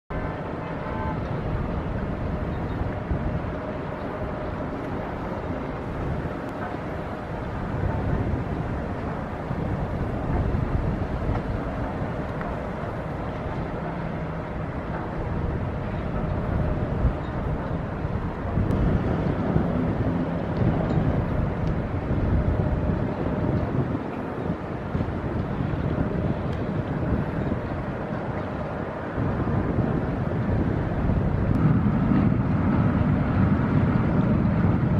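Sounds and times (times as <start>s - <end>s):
ship engine drone: 0.1s - 34.9s
wind rumbling on microphone: 0.1s - 34.9s.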